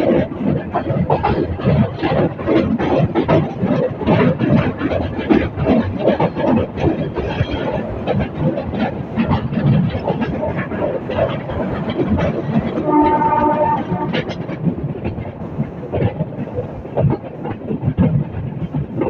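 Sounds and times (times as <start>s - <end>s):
train coach rattling: 0.0s - 19.0s
train rumble: 0.0s - 19.0s
wheels clattering over rail joints: 0.0s - 19.0s.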